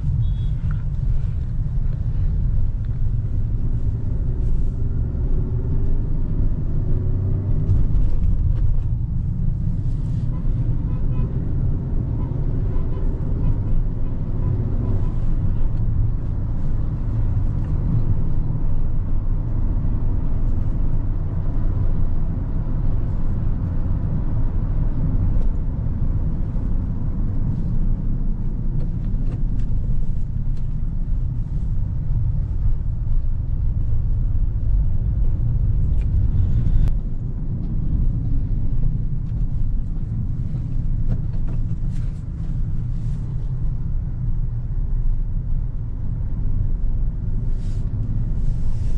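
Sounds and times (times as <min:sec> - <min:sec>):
car engine and road noise: 0:00.0 - 0:48.9.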